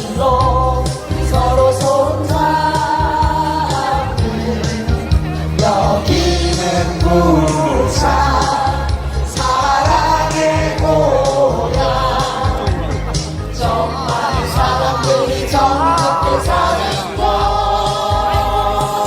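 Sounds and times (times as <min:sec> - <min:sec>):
group of voices singing: 0:00.0 - 0:19.0
instrumental accompaniment: 0:00.0 - 0:19.0.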